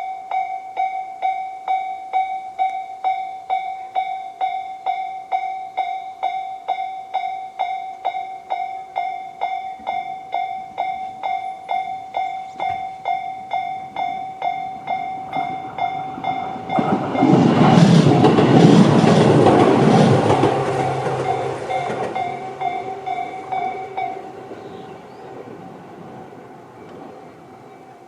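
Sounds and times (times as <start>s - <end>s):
crossing alarm bell ringing: 0.0s - 18.5s, 19.7s - 26.4s
train wheels clattering on rails: 2.2s - 28.0s.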